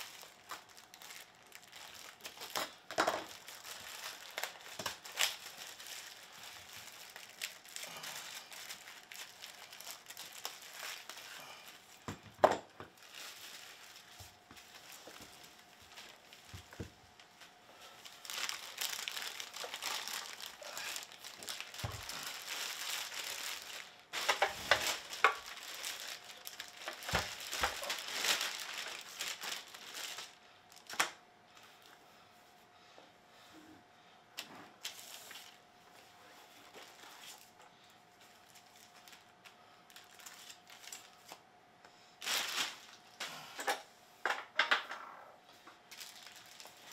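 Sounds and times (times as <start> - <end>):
plastic wrapping crinkling: 0.0 - 31.8, 34.8 - 35.6, 36.2 - 41.4, 42.2 - 43.5, 45.7 - 46.9.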